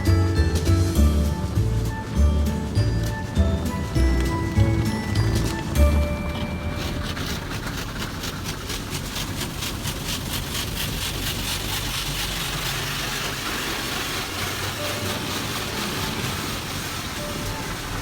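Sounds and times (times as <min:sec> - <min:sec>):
motor hum: 0:00.0 - 0:18.0
water spray hissing: 0:00.0 - 0:18.0.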